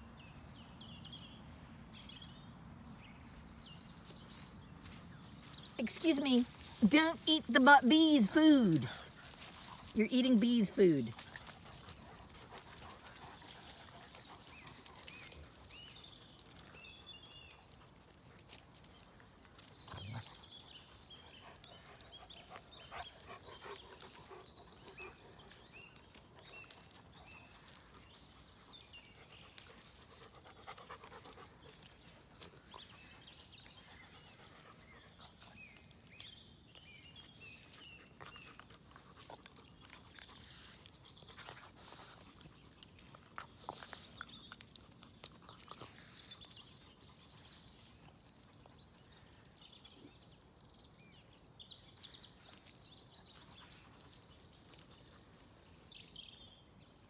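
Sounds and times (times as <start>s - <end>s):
dogs playing on grass: 0.0s - 57.0s
dogs panting: 3.8s - 50.3s, 51.8s - 57.0s.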